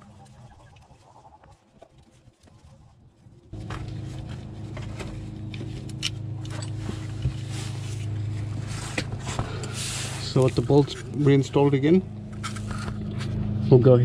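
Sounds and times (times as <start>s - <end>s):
steady low hum: 2.7s - 14.0s.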